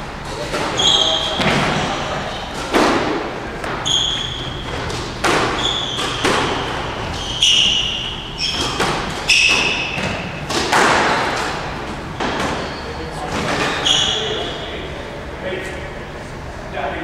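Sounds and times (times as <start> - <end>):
shoes squeaking on court floor: 0.2 - 15.0
squash ball hits: 0.3 - 14.3.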